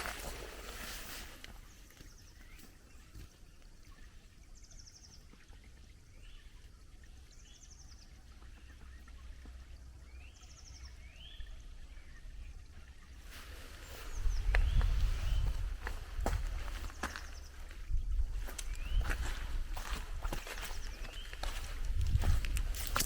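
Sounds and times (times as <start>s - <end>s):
small songbirds trilling and whistling: 0.0s - 23.0s.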